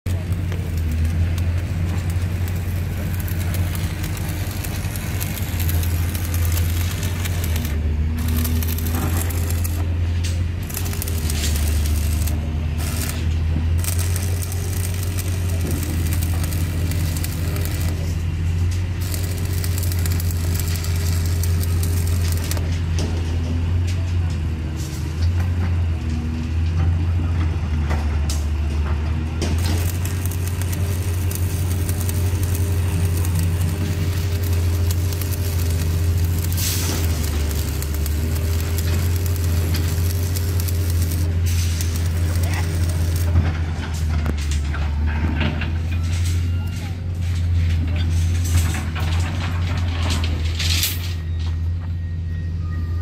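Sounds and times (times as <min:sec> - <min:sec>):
arc welding crackling and sizzling: 0:00.0 - 0:23.8, 0:28.1 - 0:46.4, 0:47.1 - 0:51.2
low engine drone: 0:00.0 - 0:24.9, 0:26.0 - 0:45.9.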